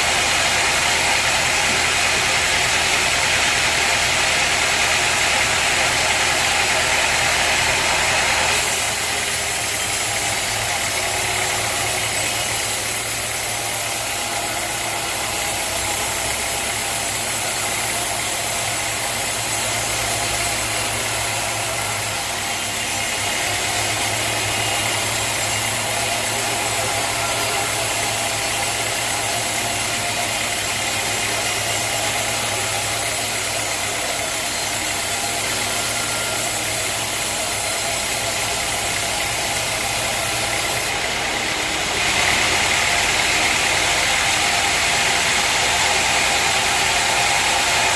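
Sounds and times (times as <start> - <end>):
loud hiss: 0.0 - 47.9
sawmill machinery humming: 0.0 - 47.9.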